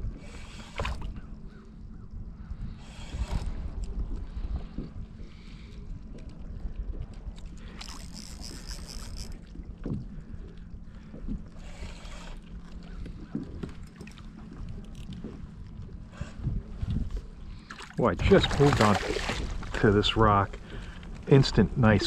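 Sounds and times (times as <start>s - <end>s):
water lapping against hull: 0.0s - 22.0s
wind rumble on microphone: 0.0s - 22.0s.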